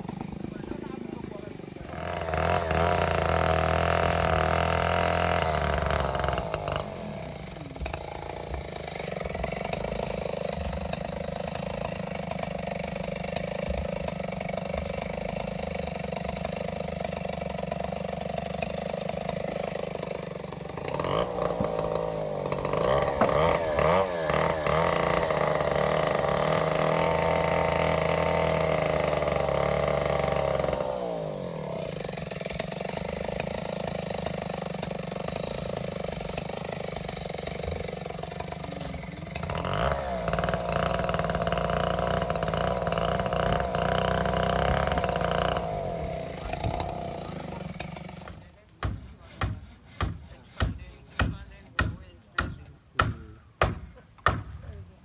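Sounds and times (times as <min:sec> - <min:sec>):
small petrol engine running: 0:00.0 - 0:48.7.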